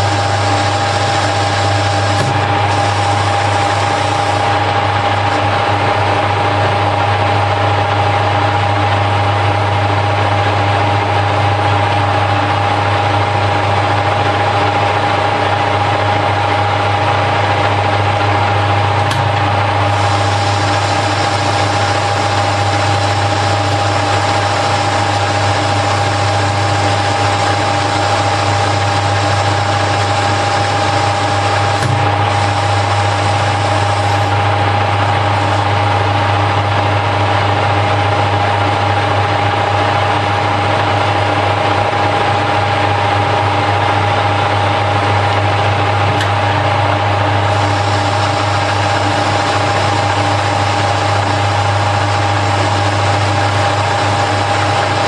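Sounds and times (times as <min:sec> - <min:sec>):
lathe humming and whining: 0:00.0 - 0:55.0.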